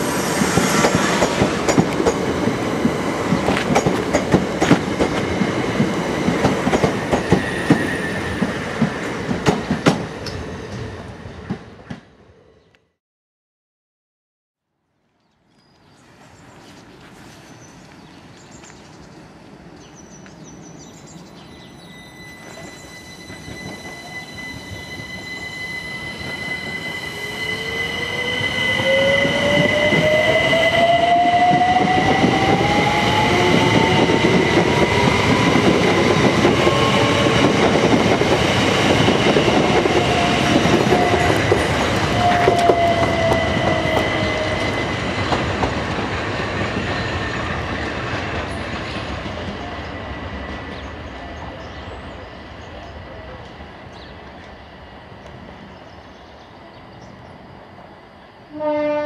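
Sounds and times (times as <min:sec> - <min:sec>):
electric train passing: 0:00.0 - 0:12.4, 0:16.1 - 0:59.0.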